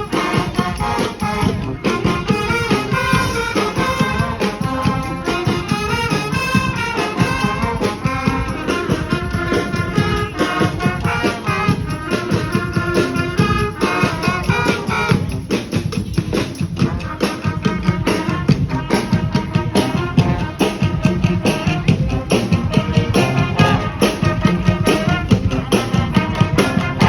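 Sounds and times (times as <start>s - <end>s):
brass band playing: 0.0s - 27.0s
drums and percussion beat: 0.0s - 27.0s.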